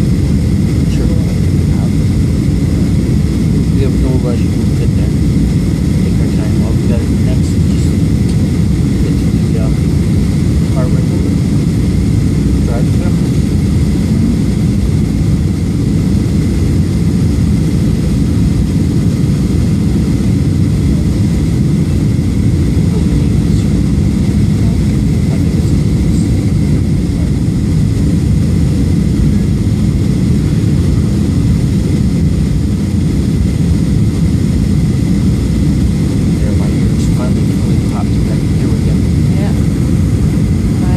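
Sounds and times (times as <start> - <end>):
jet engines and airflow in cabin: 0.0 - 40.9.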